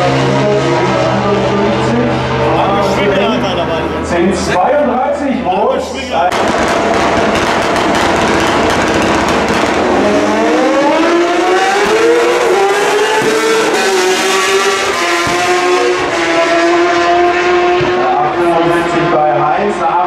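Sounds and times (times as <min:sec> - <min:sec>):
motorcycles accelerating: 0:00.0 - 0:20.0.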